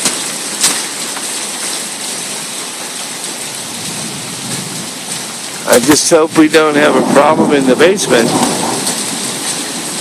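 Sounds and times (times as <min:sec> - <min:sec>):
heavy rain and hail: 0:00.0 - 0:10.0.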